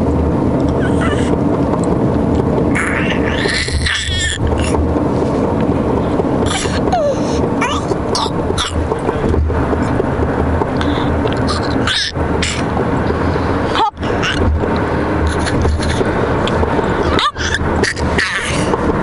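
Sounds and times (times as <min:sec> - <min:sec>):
road rumble inside car: 0:00.0 - 0:19.0.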